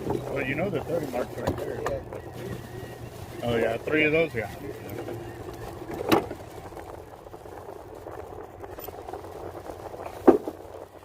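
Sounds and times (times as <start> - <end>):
surf: 0.0 - 11.0
wind: 0.0 - 11.0.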